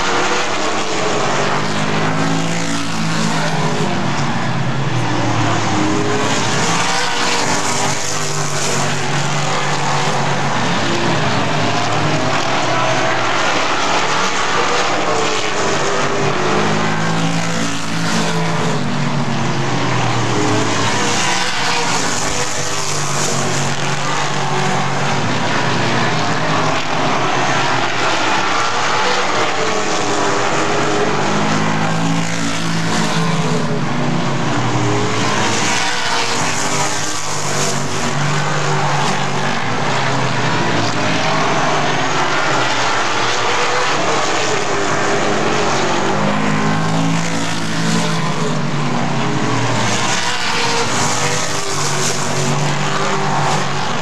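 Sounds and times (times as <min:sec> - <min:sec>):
stock car engines racing: 0:00.0 - 0:54.0.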